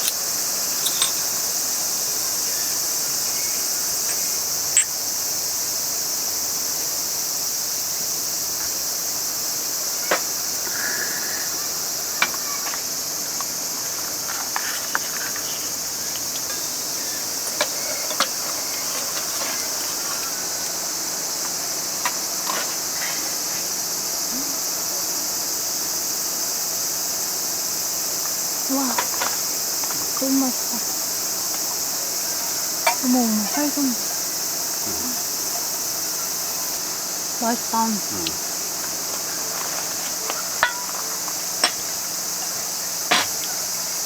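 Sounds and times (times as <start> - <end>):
crickets and insects chirping: 0.0 - 44.0.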